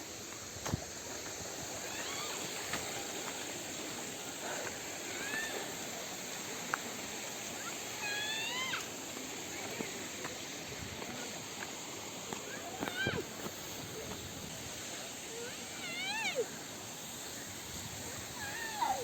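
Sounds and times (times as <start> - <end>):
waterfall rushing: 1.3 - 19.0.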